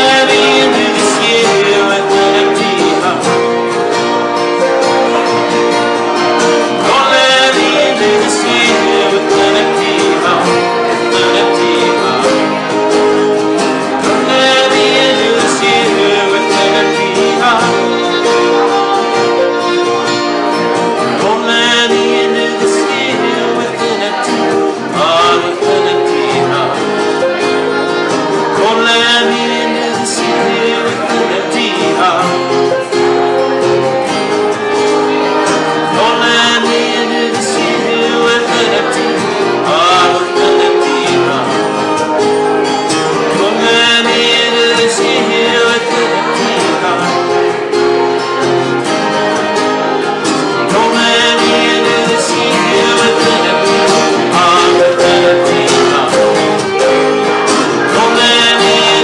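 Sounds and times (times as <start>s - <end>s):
banjo: 0.0s - 59.0s
fiddle: 0.0s - 59.0s
man singing: 0.0s - 59.0s
strummed acoustic guitars: 0.0s - 59.0s.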